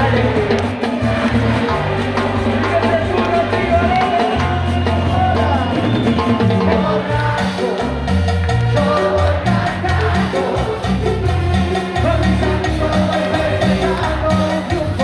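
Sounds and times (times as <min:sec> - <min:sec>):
bass line: 0:00.0 - 0:15.0
drum kit beat: 0:00.0 - 0:15.0
person singing: 0:02.6 - 0:15.0.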